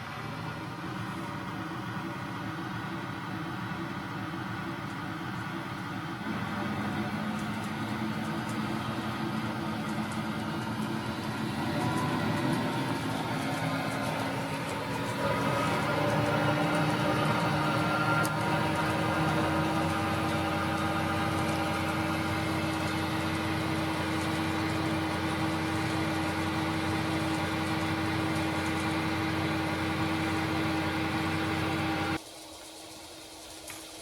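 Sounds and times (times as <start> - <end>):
diesel railcar engine drone: 0.0 - 32.2.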